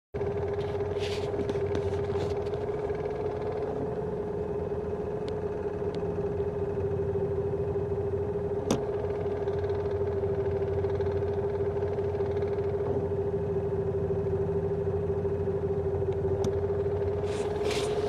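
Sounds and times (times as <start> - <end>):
car engine running: 0.2 - 18.0
steady whining tone: 0.2 - 18.0.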